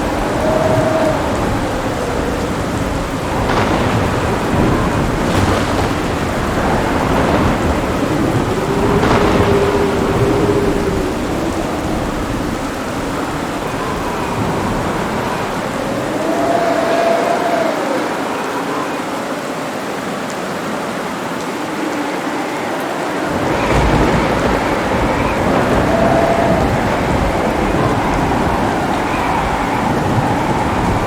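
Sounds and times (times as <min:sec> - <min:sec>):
thunder cracks: 0:00.0 - 0:17.3, 0:23.3 - 0:31.0
thunder rumbling: 0:00.0 - 0:18.2, 0:23.0 - 0:31.0
heavy rain pouring: 0:00.0 - 0:31.0.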